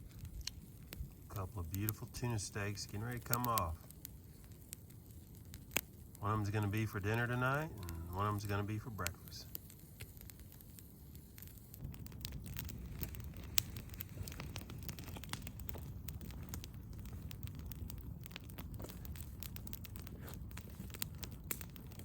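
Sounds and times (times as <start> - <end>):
campfire crackling: 0.0 - 22.0
low steady rush: 0.7 - 18.4.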